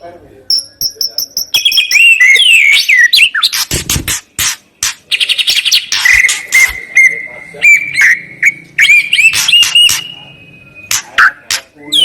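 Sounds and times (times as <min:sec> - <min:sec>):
songbird singing: 0:00.4 - 0:03.7, 0:05.0 - 0:12.0.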